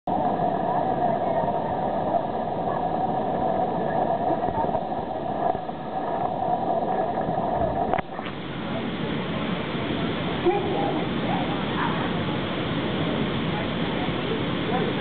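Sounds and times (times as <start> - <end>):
faint voices: 0.1 - 15.0
ventilation hum: 0.1 - 15.0.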